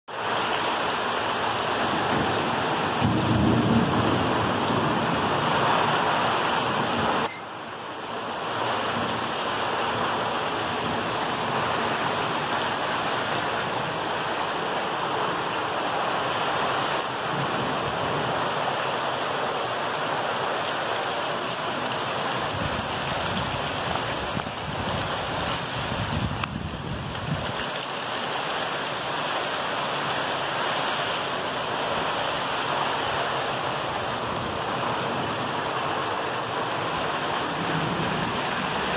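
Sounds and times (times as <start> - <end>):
heavy rain on foliage: 0.1 - 38.9.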